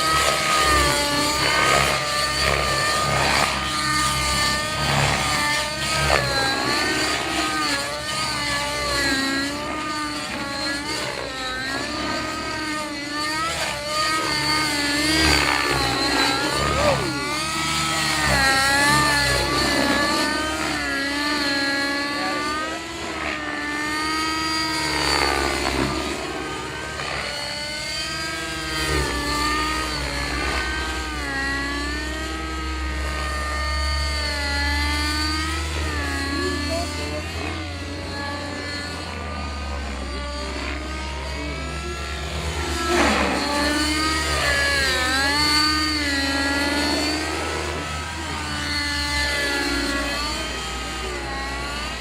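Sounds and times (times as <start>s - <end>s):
radio-controlled helicopter flying: 0.0s - 52.0s.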